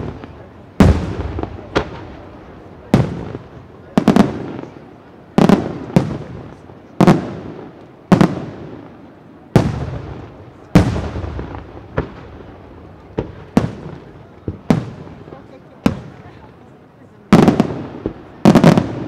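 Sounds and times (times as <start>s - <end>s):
smaller firework reports: 0.0s - 19.0s.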